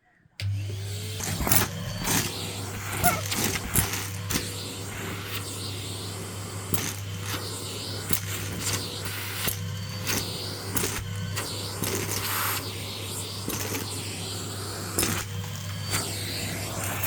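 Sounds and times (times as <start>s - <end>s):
vacuum cleaner running: 0.4s - 17.0s.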